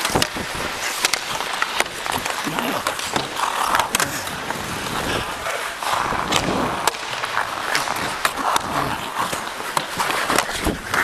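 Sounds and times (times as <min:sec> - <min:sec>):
skate blades scraping ice: 0:00.0 - 0:11.0.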